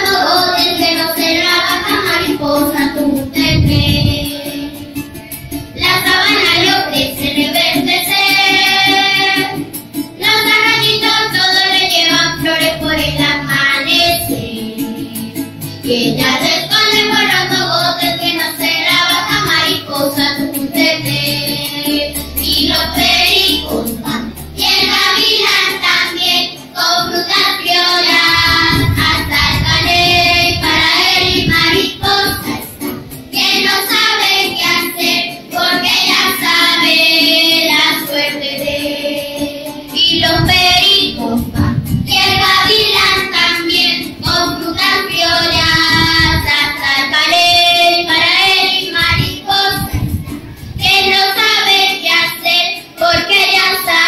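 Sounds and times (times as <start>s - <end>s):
children's choir singing: 0.0s - 54.0s.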